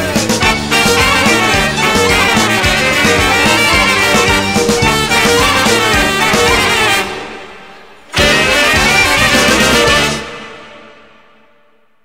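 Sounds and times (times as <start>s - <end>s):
dixieland band playing: 0.0s - 11.2s.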